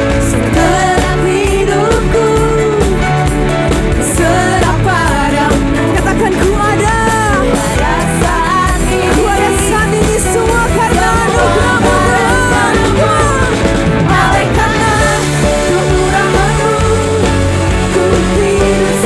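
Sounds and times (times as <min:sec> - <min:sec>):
person singing: 0:00.0 - 0:19.0
worship band playing praise song: 0:00.0 - 0:19.0.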